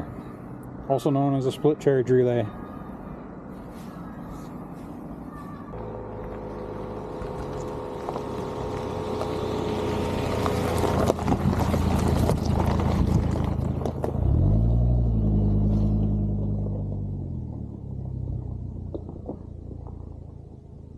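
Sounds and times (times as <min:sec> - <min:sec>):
vehicle engine and rushing noise: 0:00.0 - 0:20.9.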